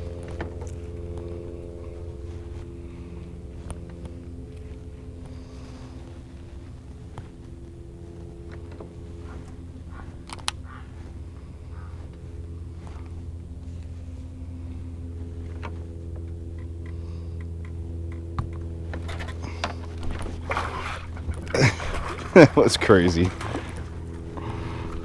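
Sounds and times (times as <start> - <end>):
electric trolling motor humming: 0.0 - 25.0.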